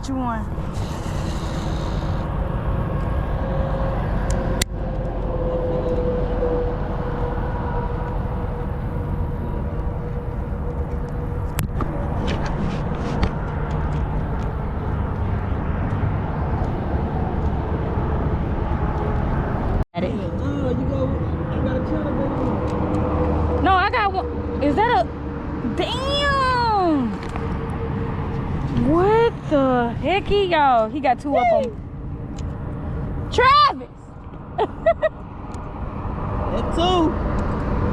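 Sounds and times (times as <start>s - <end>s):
low outdoor rumble: 0.0s - 37.9s.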